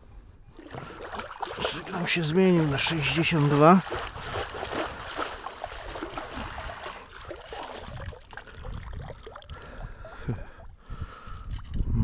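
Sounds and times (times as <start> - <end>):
water splashing and trickling: 0.5 - 11.8.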